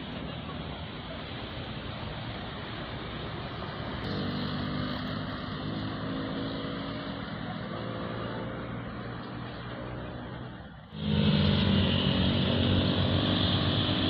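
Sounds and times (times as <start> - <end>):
outdoor noise: 0.0 - 14.0
traffic engine drone: 0.0 - 14.0.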